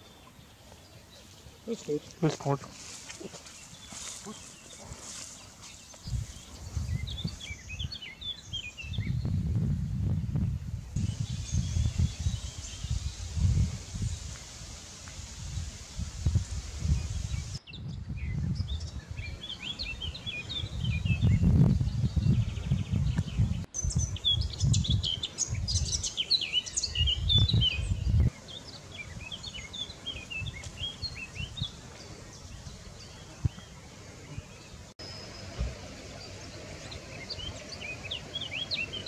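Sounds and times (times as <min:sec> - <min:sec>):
songbirds chirping: 0:00.0 - 0:09.4, 0:10.4 - 0:39.0.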